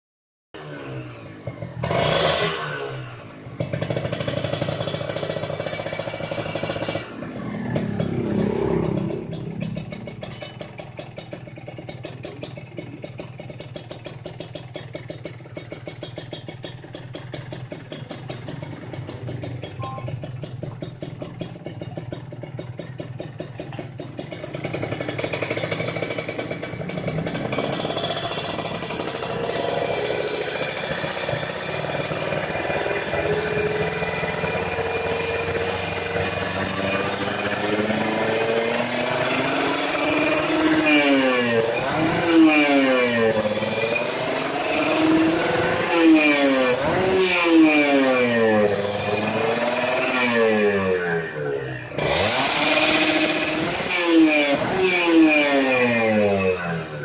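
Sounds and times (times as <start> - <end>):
two-stroke motorcycle engine revving: 0.6 - 57.0
tinny exhaust ringing: 3.6 - 56.9.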